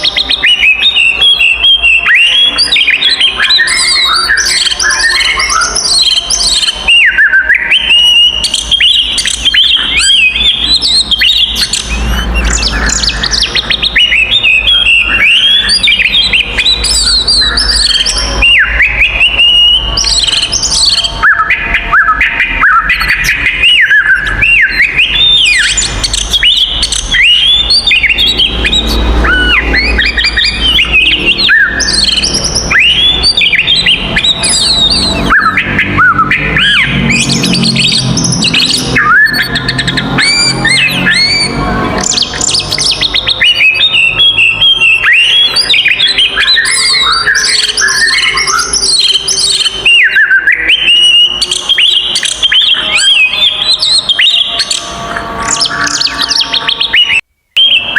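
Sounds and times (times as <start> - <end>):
bird singing loudly: 0.0 - 57.9.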